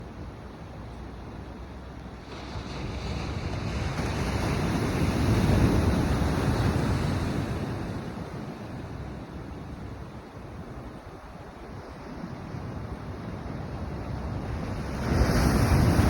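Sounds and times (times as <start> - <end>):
ocean wave surging and washing: 0.0 - 16.0
wind on microphone: 2.2 - 16.0.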